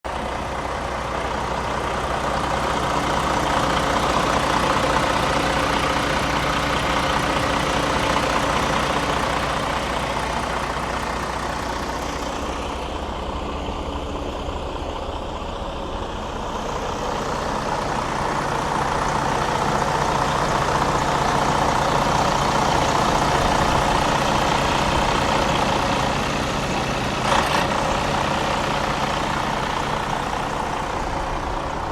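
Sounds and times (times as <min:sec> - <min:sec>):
truck diesel engine running: 0:00.0 - 0:31.9.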